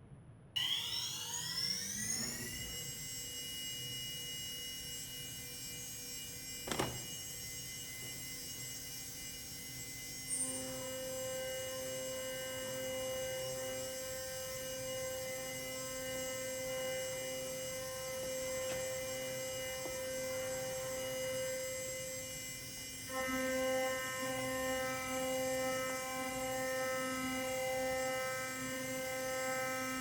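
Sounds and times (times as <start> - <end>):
router spindle whine: 0.6 - 30.0.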